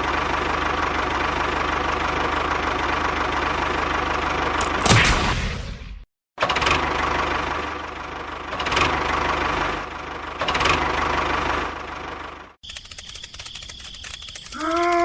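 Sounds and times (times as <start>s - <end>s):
small engine running: 0.0s - 4.9s, 6.4s - 15.0s.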